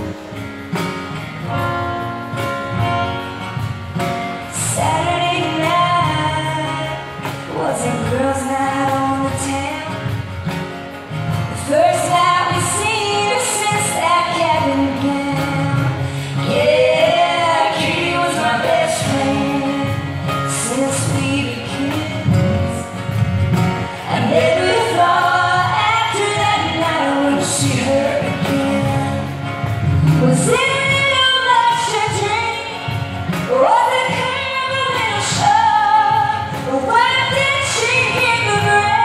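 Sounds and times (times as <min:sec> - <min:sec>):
cajon drumming: 0:00.0 - 0:39.0
strummed acoustic guitar: 0:00.0 - 0:39.0
woman singing: 0:04.4 - 0:10.6, 0:11.5 - 0:39.0.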